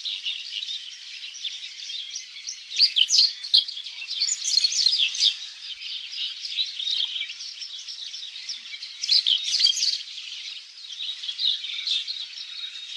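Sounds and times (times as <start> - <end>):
birds chirping and twittering: 0.0 - 12.9.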